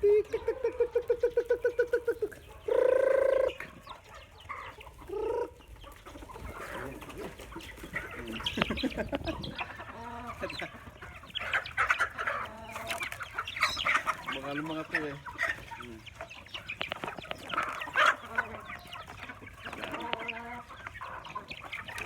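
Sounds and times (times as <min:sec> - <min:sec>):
chickens clucking and squawking: 0:00.0 - 0:22.0
chickens scratching: 0:00.3 - 0:22.0.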